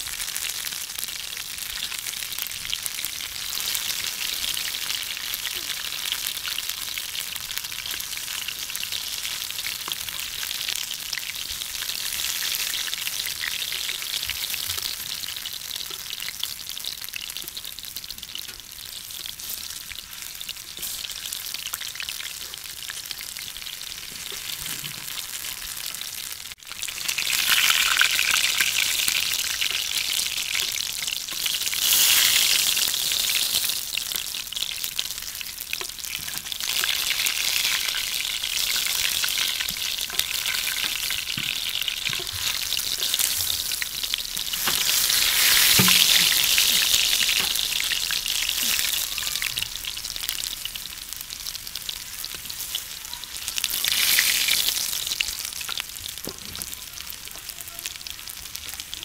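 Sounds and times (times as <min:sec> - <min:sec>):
pakoras sizzling in hot oil: 0:00.0 - 0:59.0.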